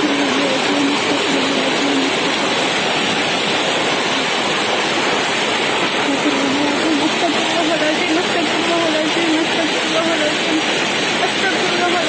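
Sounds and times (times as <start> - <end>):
hail and heavy rain falling: 0.0 - 12.0.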